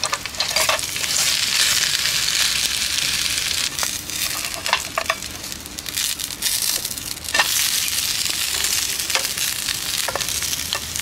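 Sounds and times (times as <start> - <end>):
fritter sizzling in hot oil: 0.0 - 11.0.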